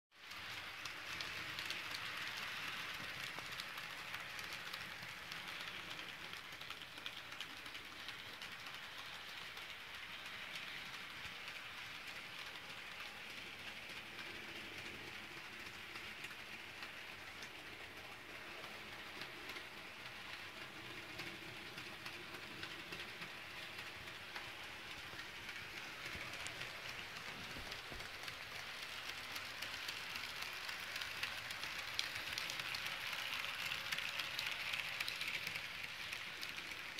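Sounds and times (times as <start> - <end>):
model locomotive motor whirring: 0.2 - 36.9.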